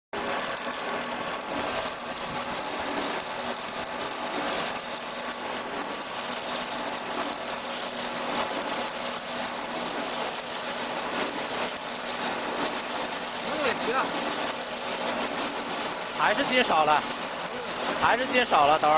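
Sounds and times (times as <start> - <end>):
low machine hum: 0.2 - 18.9
milling machine cutting log: 0.2 - 18.9.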